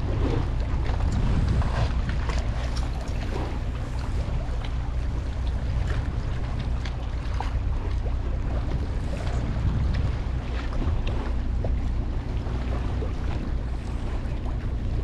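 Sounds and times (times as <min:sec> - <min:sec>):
low rumble: 0:00.0 - 0:15.0
water lapping against boat hull: 0:00.0 - 0:15.0
wind buffeting microphone: 0:00.0 - 0:15.0.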